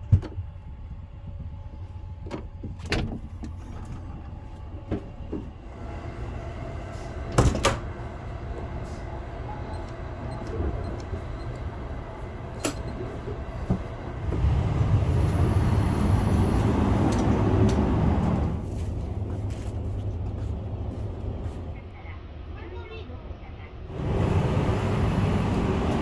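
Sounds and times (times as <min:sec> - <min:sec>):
train running low rumble: 0:00.0 - 0:26.0.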